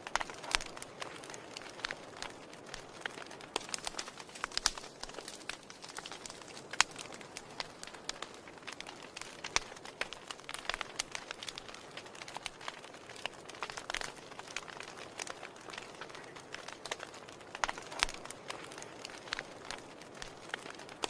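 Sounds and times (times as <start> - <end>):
fire crackling and popping: 0.0 - 21.0
soft steady hiss: 0.0 - 21.0.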